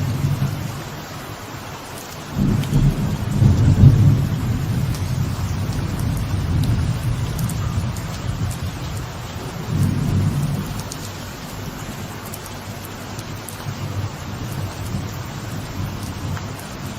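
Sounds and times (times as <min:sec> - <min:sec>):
thunder rumbling: 0:00.0 - 0:01.0, 0:02.3 - 0:16.9
light rain on a veranda: 0:00.0 - 0:16.9.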